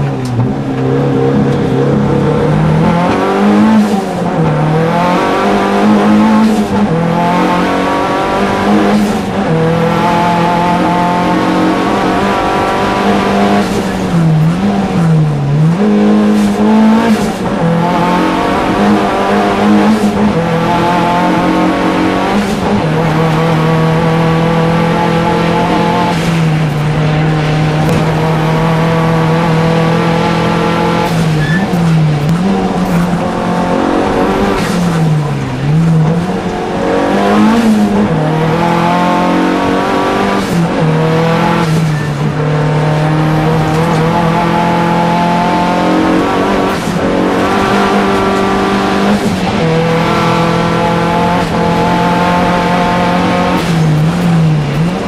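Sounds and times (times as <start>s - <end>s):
racing car engine at high revs: 0.0s - 55.0s.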